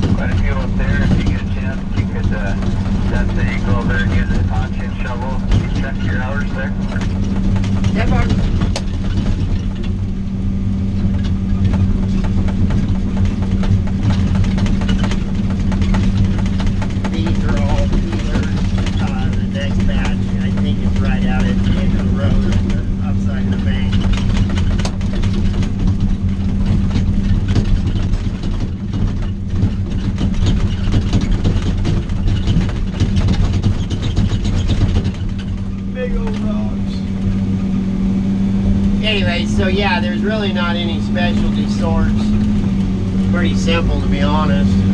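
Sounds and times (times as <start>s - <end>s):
diesel engine running: 0.0s - 44.9s
knocks and rattles in cab: 0.0s - 44.9s.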